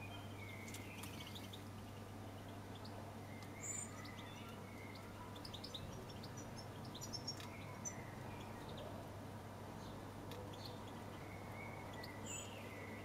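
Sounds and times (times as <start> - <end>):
birds chirping: 0.0 - 9.0, 9.8 - 13.0.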